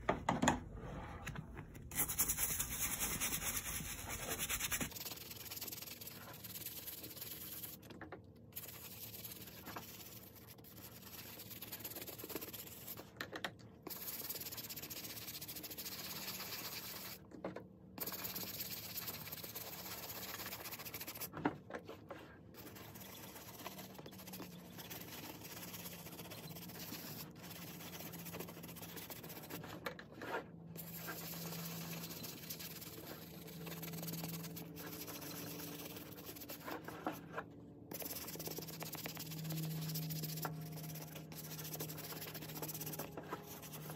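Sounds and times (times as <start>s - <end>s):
brush scrubbing suede: 1.9s - 7.9s, 8.5s - 13.1s, 13.9s - 17.2s, 18.0s - 21.3s, 22.6s - 29.6s, 30.8s - 43.9s.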